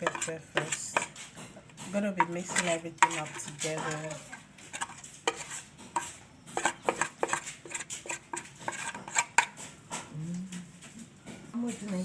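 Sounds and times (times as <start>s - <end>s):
utensil clinking against pot: 0.0s - 10.1s.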